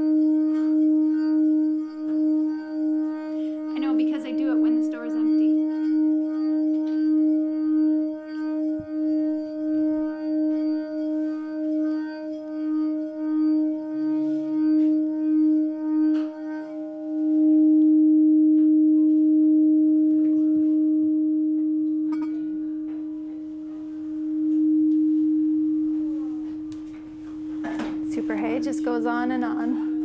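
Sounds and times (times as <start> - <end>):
crystal singing bowl tone: 0.0 - 30.0.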